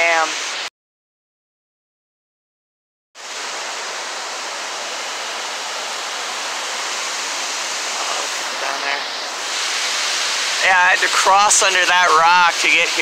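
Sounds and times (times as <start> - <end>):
waterfall rushing: 0.0 - 0.7, 3.2 - 13.0.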